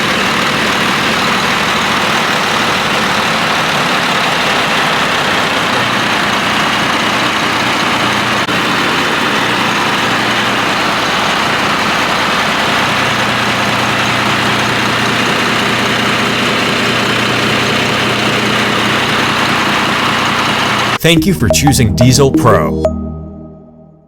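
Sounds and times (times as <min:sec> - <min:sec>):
diesel engines running: 0:00.0 - 0:21.0.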